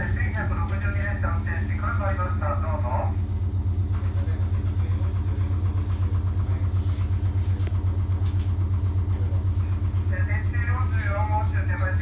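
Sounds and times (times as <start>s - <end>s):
electric train equipment humming: 0.0s - 12.0s.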